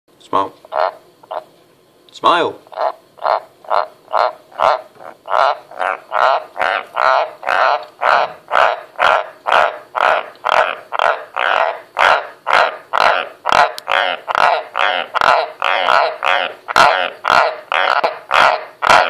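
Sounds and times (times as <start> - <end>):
tree frogs croaking: 0.6 - 1.5, 2.6 - 19.0.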